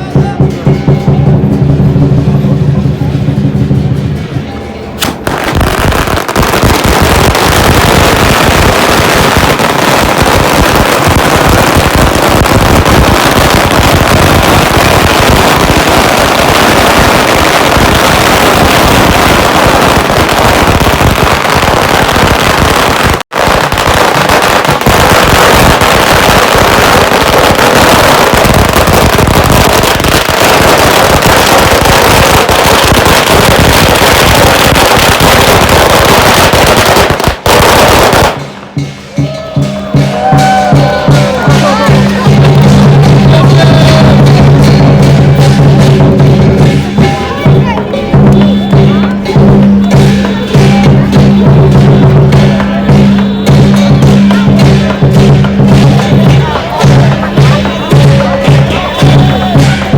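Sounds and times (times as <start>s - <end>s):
firecrackers rattling: 0.0s - 59.9s.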